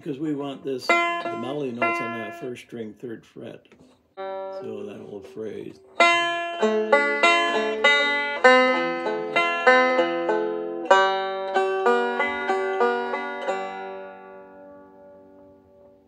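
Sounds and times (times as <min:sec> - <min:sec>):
banjo picked melody: 0:00.0 - 0:03.6, 0:04.2 - 0:16.0.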